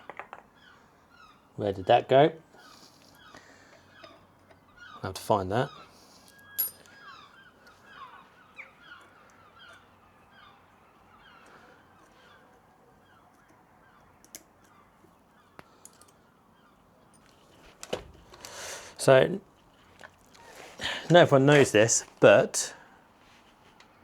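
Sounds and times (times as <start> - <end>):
faint bird calls: 0.0 - 21.6.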